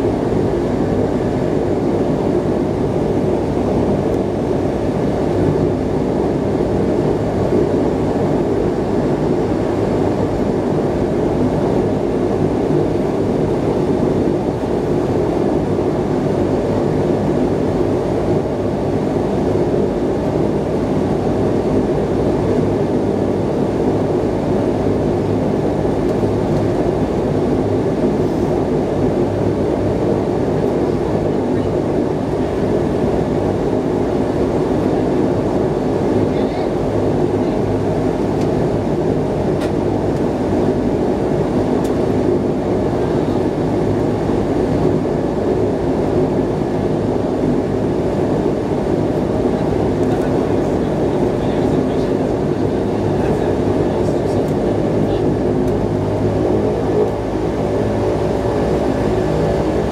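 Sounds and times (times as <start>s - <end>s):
propeller engines droning: 0.0s - 59.9s.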